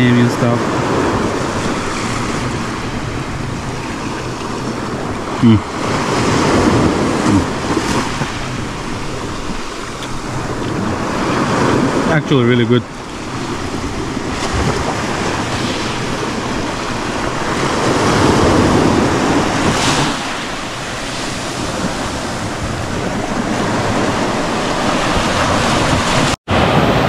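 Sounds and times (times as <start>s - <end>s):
sea waves washing on shore: 0.0s - 27.0s
wind noise on microphone: 0.0s - 27.0s.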